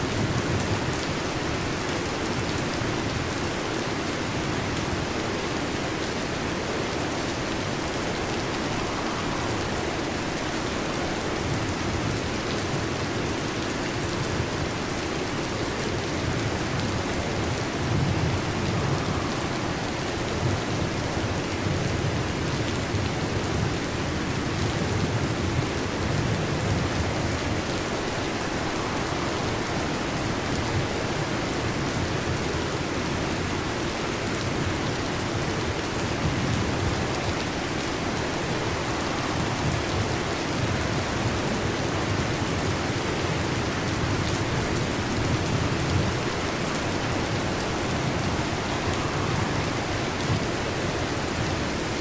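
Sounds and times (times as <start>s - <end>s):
heavy rain on a metal roof: 0.0s - 52.0s.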